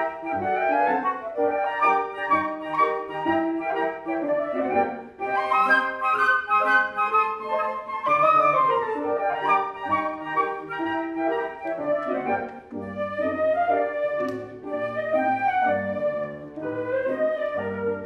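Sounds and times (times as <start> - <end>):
flutes playing in harmony: 0.0 - 18.0
grand piano accompanying: 0.0 - 18.0.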